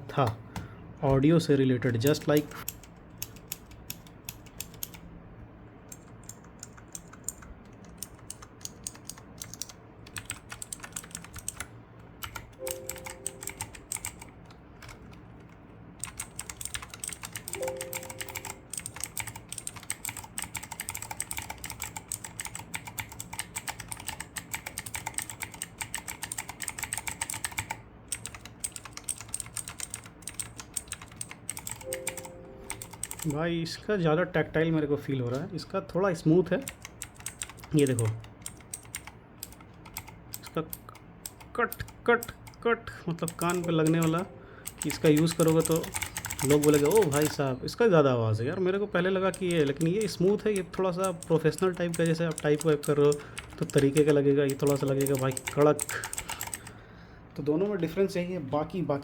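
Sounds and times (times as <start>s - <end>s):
typing on mechanical keyboard: 2.0s - 5.0s, 5.9s - 33.4s, 36.6s - 42.5s, 43.2s - 47.5s, 49.2s - 56.8s.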